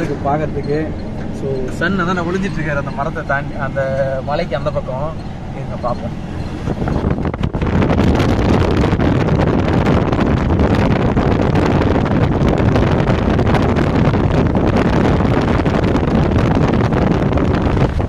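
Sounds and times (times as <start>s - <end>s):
lorry engine and road noise: 0.0s - 18.0s
wind buffeting microphone: 0.0s - 18.0s.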